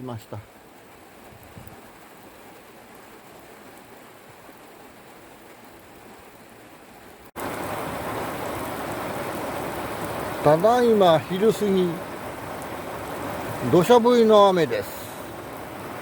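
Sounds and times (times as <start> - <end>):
heavy rain falling: 0.1 - 16.0.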